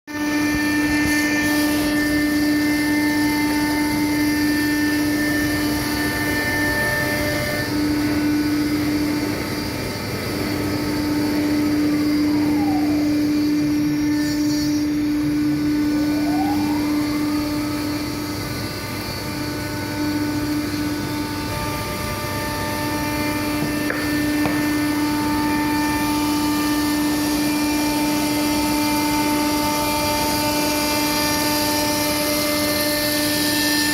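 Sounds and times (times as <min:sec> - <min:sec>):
router spindle whine: 0:00.1 - 0:33.9.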